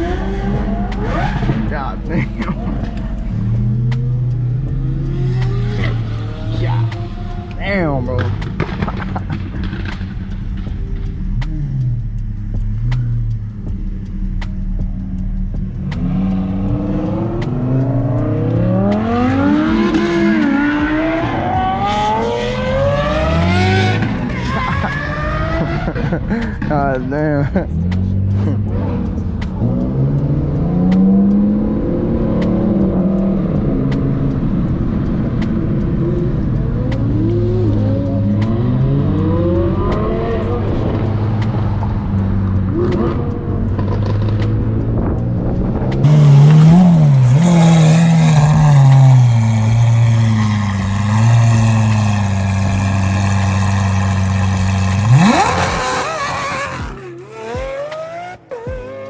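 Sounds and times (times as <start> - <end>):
supercar engines revving: 0.0 - 59.0.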